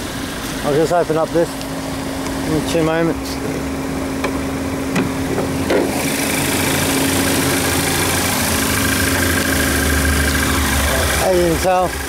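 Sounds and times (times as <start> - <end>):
car engine idling: 0.0 - 12.0
steady engine hiss: 0.0 - 12.0.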